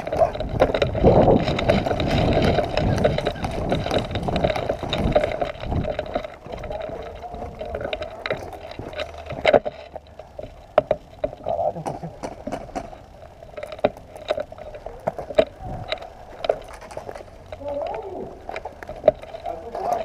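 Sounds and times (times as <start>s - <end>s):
gear rustling and scraping: 0.0s - 20.0s.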